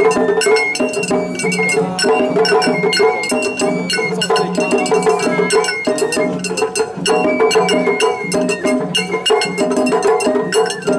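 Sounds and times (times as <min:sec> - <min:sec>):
bamboo flute melody: 0:00.0 - 0:10.9
drums: 0:00.0 - 0:10.9.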